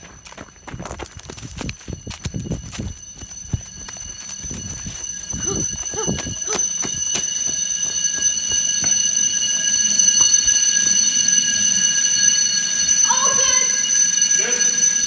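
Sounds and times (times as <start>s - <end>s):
high-pitched fire alarm tone: 0.0s - 15.0s.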